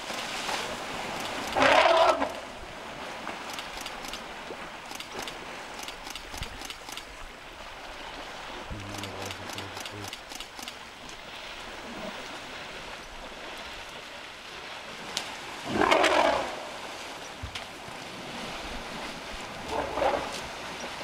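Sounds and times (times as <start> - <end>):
elephant splashing water: 0.0 - 21.0
rushing water: 0.0 - 21.0
wind: 0.0 - 21.0.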